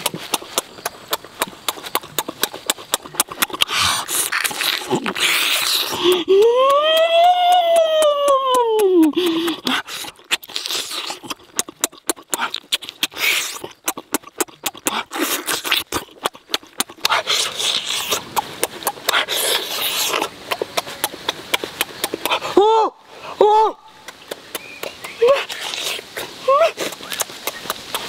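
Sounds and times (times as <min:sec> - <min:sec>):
wet lip smacks and slurps: 0:00.0 - 0:06.4, 0:09.1 - 0:22.6, 0:24.0 - 0:28.0
person chewing: 0:00.0 - 0:22.6, 0:23.3 - 0:28.0.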